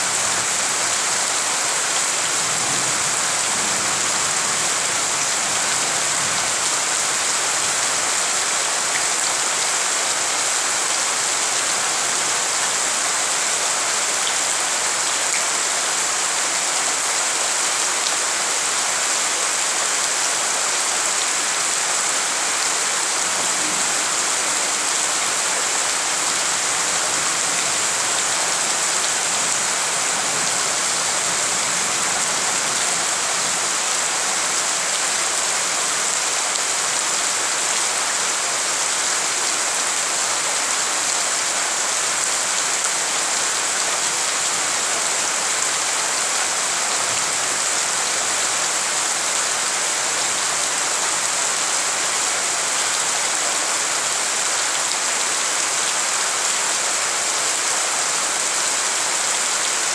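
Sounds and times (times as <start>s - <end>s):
rain on standing water: 0.0s - 59.9s.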